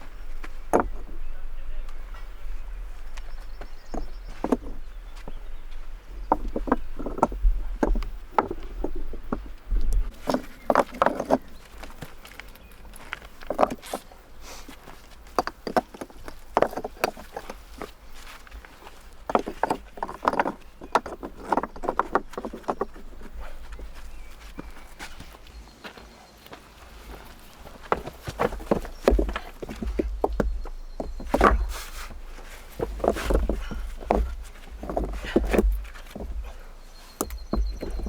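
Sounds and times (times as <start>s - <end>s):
stones knocking together: 0.3s - 1.2s, 3.5s - 14.1s, 14.8s - 24.8s, 27.1s - 38.0s.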